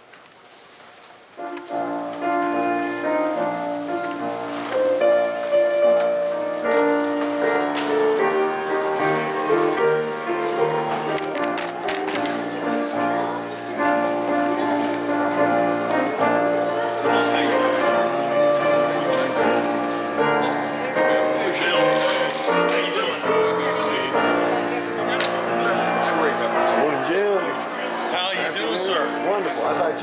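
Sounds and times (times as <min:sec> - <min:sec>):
held keyboard chords: 0:01.4 - 0:30.0.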